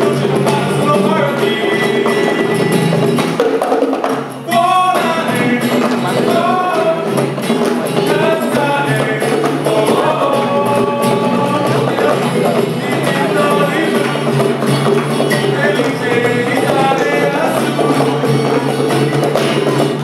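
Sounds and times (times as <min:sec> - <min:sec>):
bongos: 0:00.0 - 0:20.0
guitars: 0:00.0 - 0:20.0
voices singing: 0:00.0 - 0:20.0.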